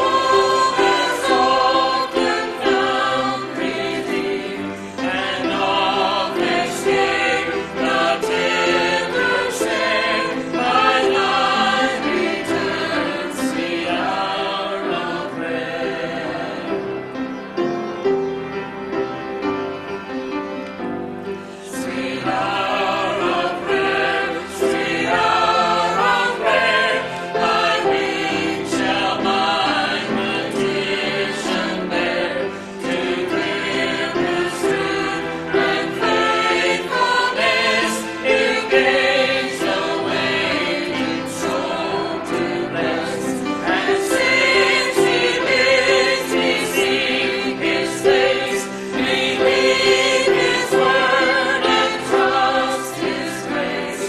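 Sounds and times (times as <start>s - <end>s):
mixed choir singing a hymn: 0.0s - 54.0s.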